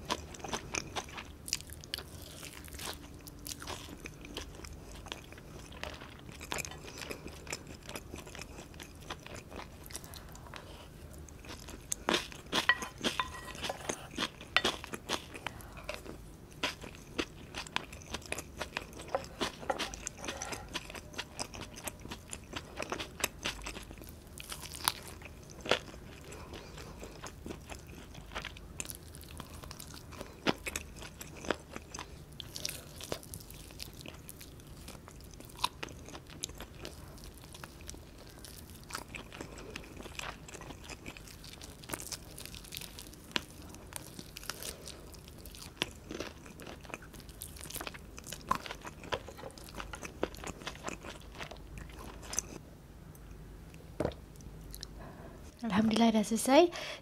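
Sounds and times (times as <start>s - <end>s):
chewing and biting food: 0.0s - 52.6s.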